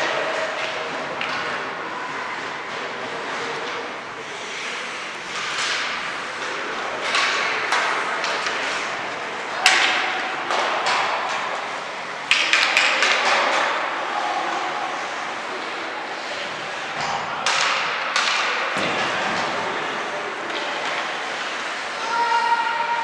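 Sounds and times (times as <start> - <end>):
hockey sticks and puck striking: 0.0 - 1.6, 4.6 - 22.6
skates scraping ice: 0.0 - 23.0.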